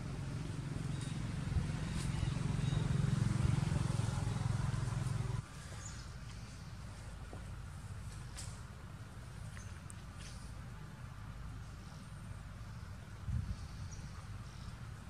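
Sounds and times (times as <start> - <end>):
engine humming: 0.0 - 13.3.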